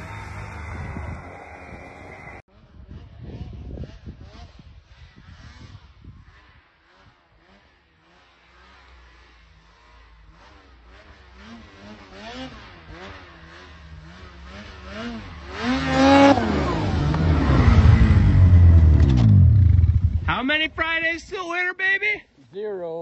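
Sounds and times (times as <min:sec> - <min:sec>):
snowmobile engine revving: 0:00.0 - 0:21.1.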